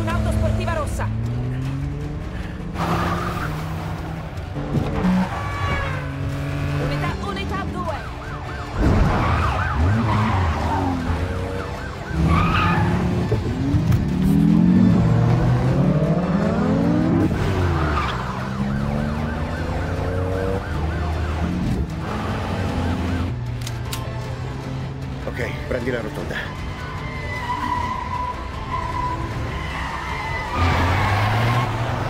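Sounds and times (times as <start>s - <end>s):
car engines revving: 0.0s - 32.0s
police siren wailing: 3.1s - 23.4s, 26.3s - 32.0s.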